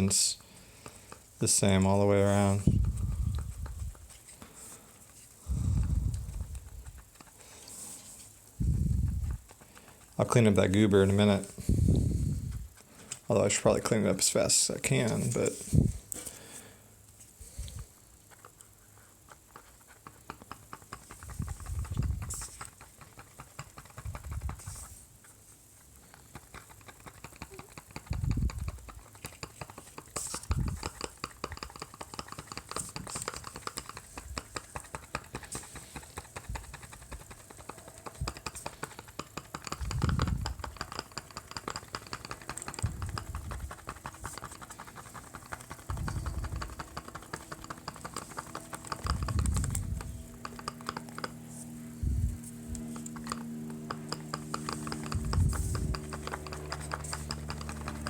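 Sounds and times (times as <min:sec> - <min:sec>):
fingertips tapping foam: 0:00.0 - 0:16.8, 0:17.4 - 0:58.0.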